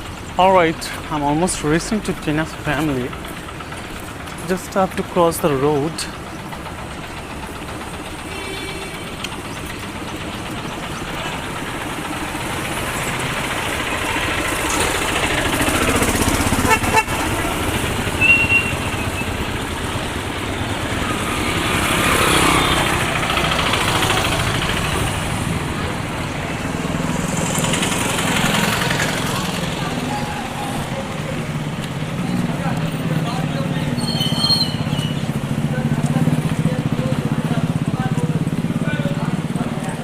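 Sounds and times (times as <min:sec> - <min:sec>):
traffic passing: 0:00.0 - 0:40.0.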